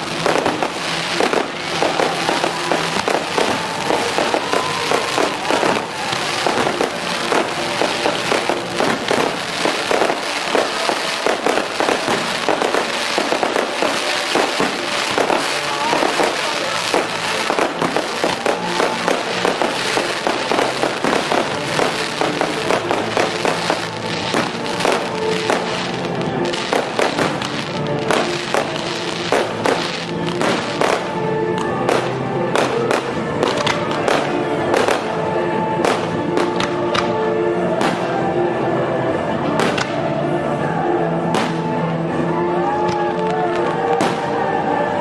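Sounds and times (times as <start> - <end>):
firecrackers going off: 0.0 - 38.4, 39.0 - 40.1, 41.2 - 45.0
melodic music: 0.0 - 45.0.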